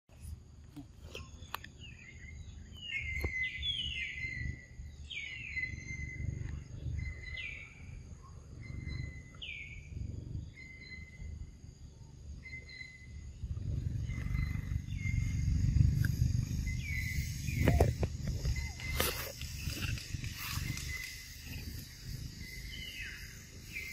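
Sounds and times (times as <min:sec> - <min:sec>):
low rumble: 0:01.9 - 0:23.9.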